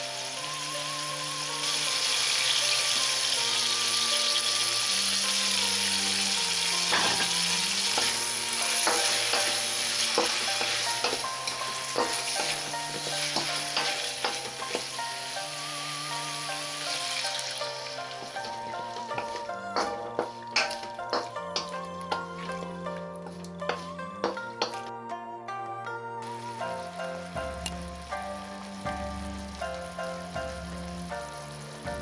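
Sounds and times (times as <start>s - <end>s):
food sizzling in a wok: 0.0s - 24.8s, 26.2s - 32.0s.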